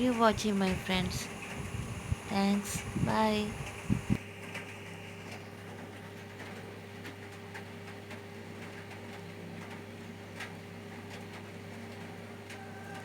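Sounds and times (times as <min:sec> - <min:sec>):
low electrical hum: 0:00.0 - 0:12.6.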